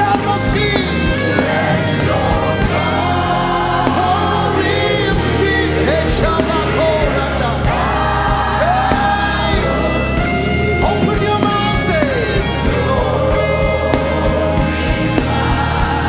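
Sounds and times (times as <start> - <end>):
band with sustained bass: 0.0 - 16.0
voices singing gospel: 0.0 - 16.0.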